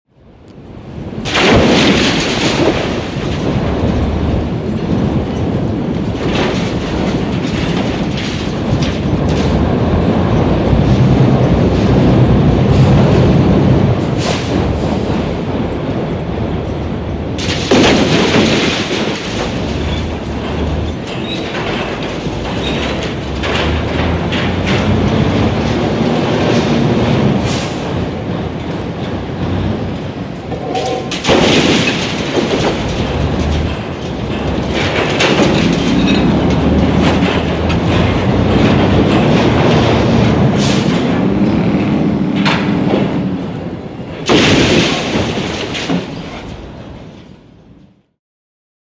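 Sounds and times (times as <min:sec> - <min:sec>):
rumble of crumbling masonry: 0:00.1 - 0:48.2
rattling debris: 0:00.5 - 0:47.7
loud crashes: 0:01.0 - 0:47.4.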